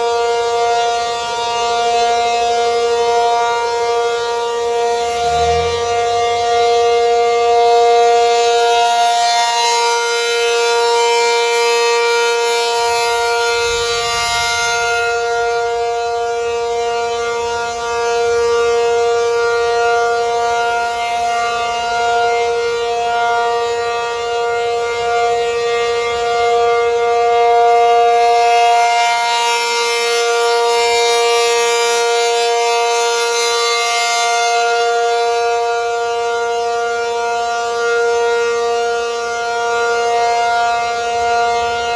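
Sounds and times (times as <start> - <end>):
warning siren wailing: 0.0 - 41.9.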